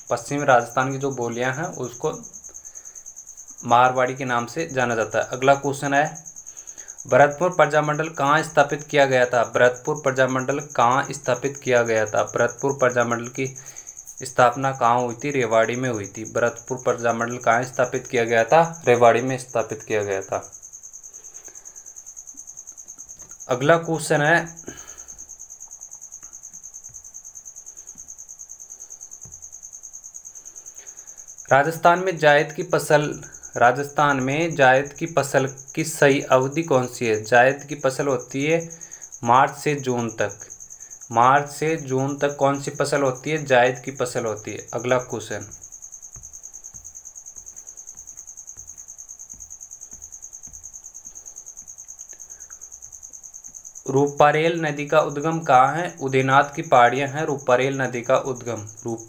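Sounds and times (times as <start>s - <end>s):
insect trilling: 0.0s - 59.0s.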